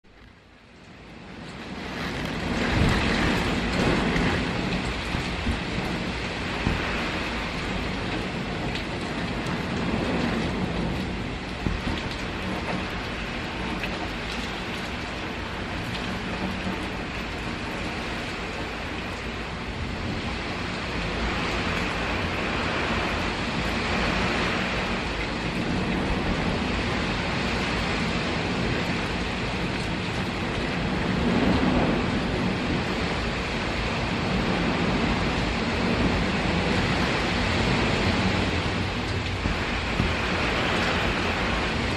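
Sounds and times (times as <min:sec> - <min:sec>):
gusting wind: 0:00.0 - 0:41.9
heavy rain downpour: 0:00.0 - 0:41.9.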